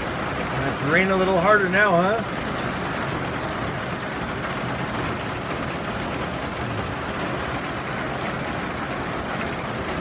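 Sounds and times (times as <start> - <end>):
hard rain on roof: 0.0 - 10.0.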